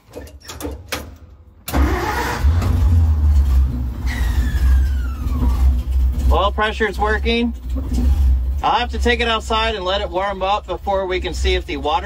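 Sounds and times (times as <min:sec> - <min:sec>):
truck engine starting and idling: 0:00.0 - 0:12.0.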